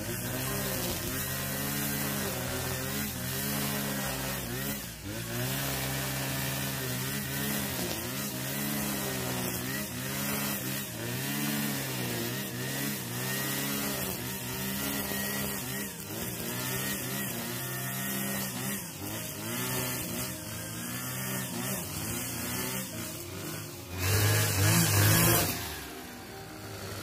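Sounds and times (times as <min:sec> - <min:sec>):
brush cutter cutting grass: 0:00.0 - 0:27.0.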